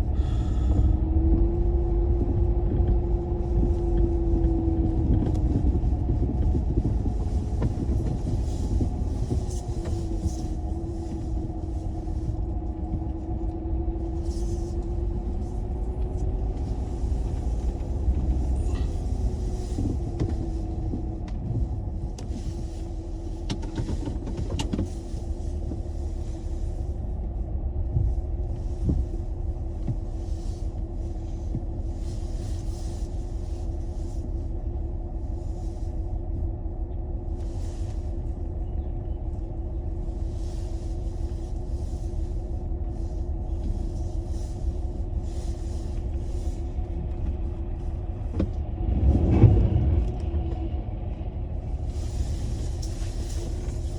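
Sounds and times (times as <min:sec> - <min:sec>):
vehicle rumble: 0:00.0 - 0:53.9.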